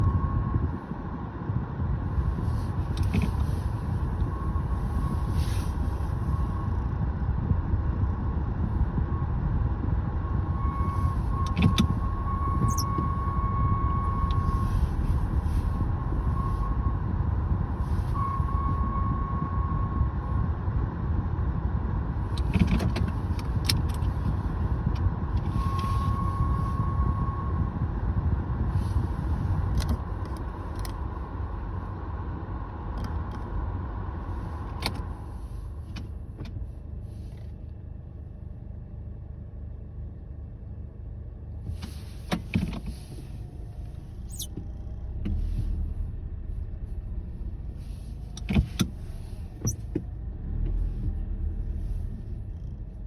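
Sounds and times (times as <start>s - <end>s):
car rumble: 0.0s - 53.0s.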